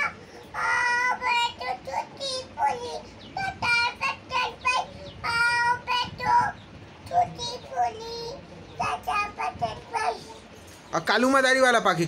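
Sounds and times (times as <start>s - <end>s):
toddler singing: 0.0s - 10.4s.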